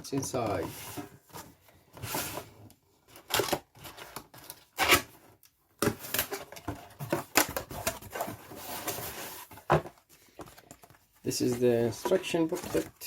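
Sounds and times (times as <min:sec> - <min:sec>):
cardboard and packaging rustling: 0:00.0 - 0:13.0.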